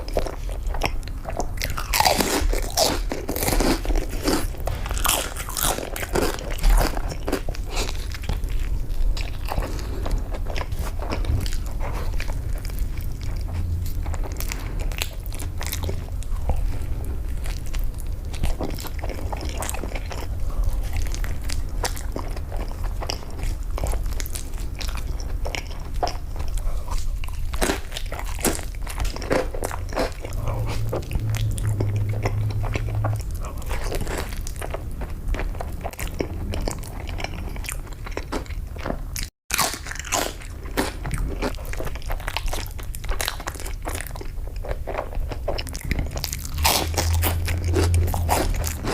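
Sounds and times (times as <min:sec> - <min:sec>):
crunchy bites and wet chewing: 0:00.0 - 0:48.9.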